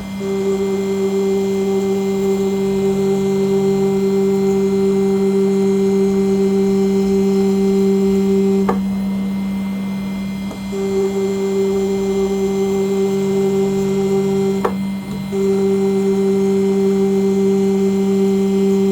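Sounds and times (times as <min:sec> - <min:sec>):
engraving machine whine: 0:00.0 - 0:18.9.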